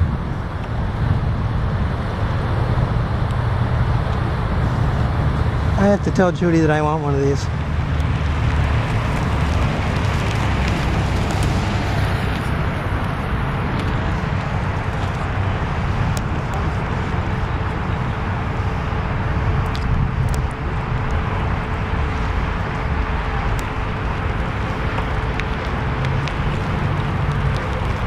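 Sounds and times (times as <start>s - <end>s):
road and tyre rumble: 0.0s - 28.0s.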